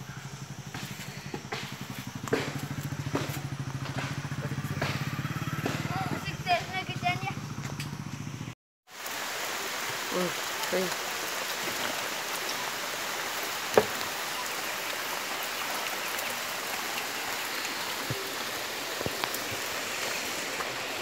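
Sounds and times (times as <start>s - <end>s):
steady rain falling: 0.0s - 7.1s, 8.9s - 21.0s.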